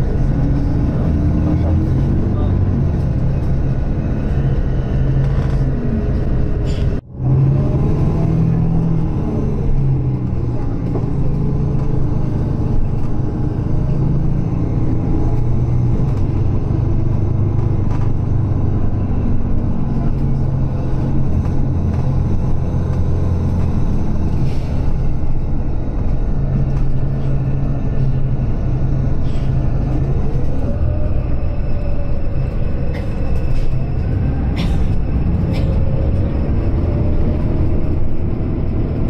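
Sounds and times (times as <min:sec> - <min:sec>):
road noise: 0:00.0 - 0:39.0
vehicle engine rumble: 0:00.0 - 0:39.0.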